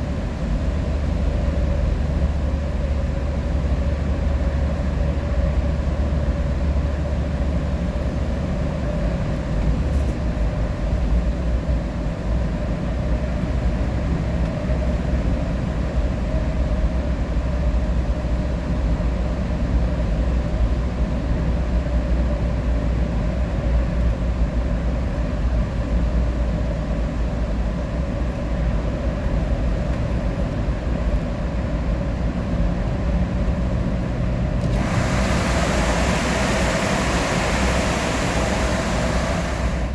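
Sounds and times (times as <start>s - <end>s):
vehicle cabin road rumble: 0.0s - 39.9s.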